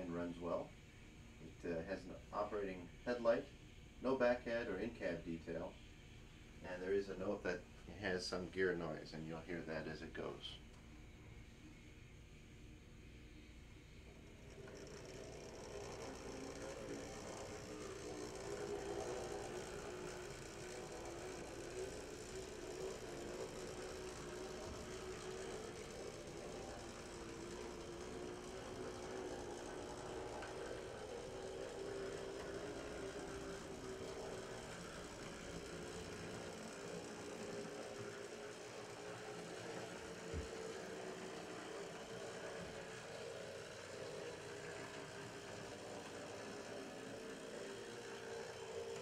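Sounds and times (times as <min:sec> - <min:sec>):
model locomotive motor whining: 0:00.0 - 0:11.9, 0:12.6 - 0:49.0.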